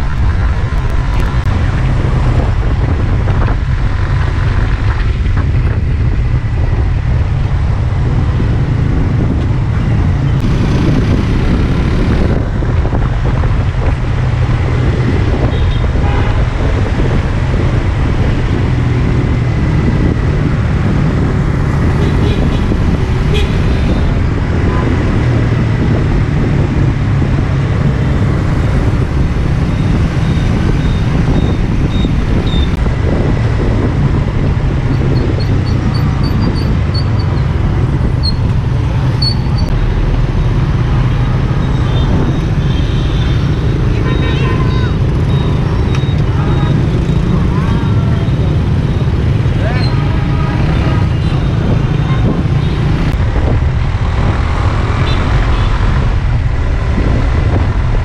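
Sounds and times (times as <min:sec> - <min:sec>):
traffic noise: 0:00.0 - 0:58.0
wind rumble on microphone: 0:00.0 - 0:58.0.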